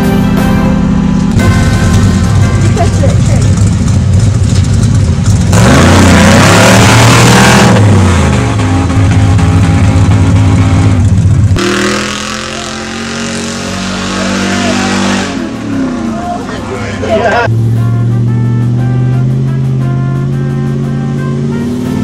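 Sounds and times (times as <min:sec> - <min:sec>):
loud rushing noise: 0:00.0 - 0:17.8
truck engines revving: 0:00.0 - 0:22.0.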